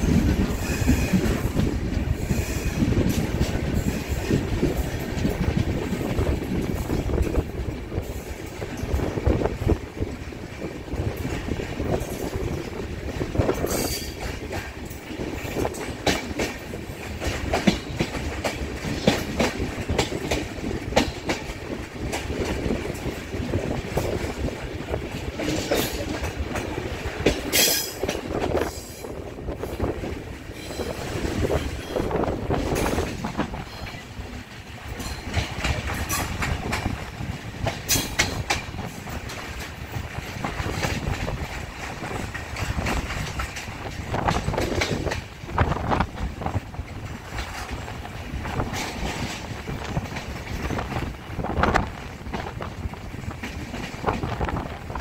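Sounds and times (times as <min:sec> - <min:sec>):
train coaches rumbling: 0:00.0 - 0:55.0
wheels clacking over rail joints: 0:00.0 - 0:55.0.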